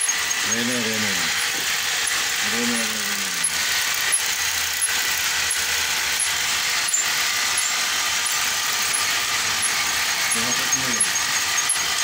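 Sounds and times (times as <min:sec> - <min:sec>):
winding machine whirring: 0:00.0 - 0:12.0.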